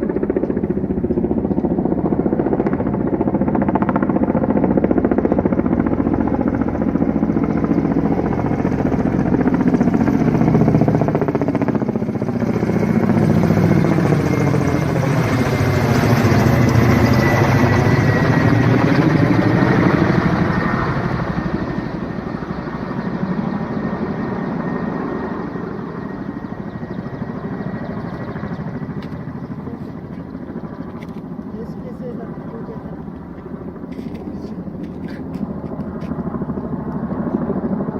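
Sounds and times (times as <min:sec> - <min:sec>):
helicopter rotor chopping: 0:00.0 - 0:37.9.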